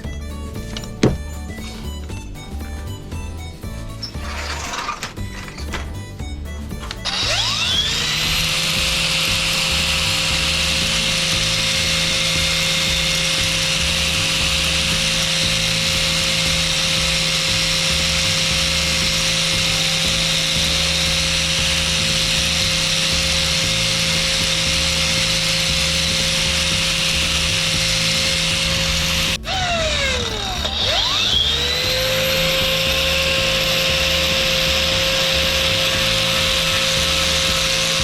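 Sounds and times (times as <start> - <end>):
power sander motor whine: 6.9 - 38.0.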